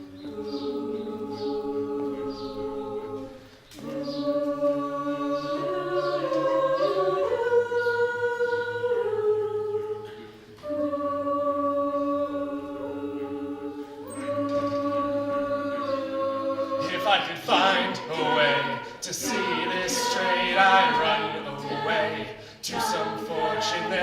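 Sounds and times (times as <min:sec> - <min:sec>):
a cappella group singing chords: 0:00.0 - 0:24.0.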